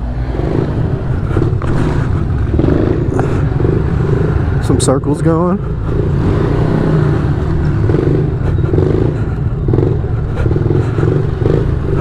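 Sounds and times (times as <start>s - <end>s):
small motorbike engine revving: 0.2s - 12.0s.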